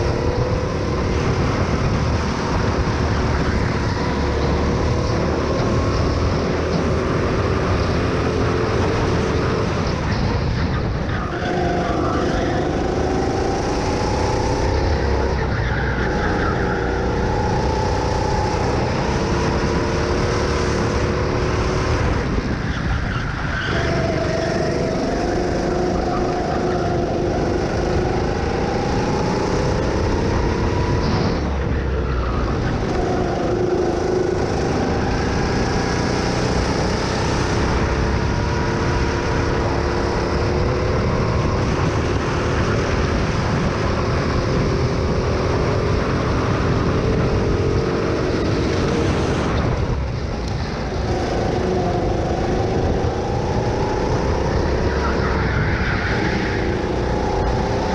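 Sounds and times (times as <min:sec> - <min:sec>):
go-kart engine running: 0:00.0 - 0:57.9.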